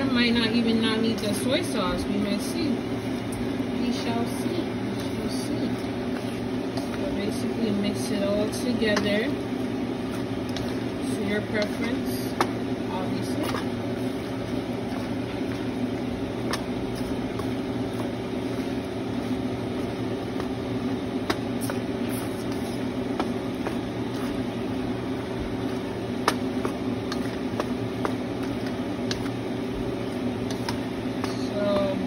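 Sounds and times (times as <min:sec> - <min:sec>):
steady mechanical hum: 0:00.0 - 0:32.0
spatula stirring pasta in wok: 0:02.9 - 0:32.0.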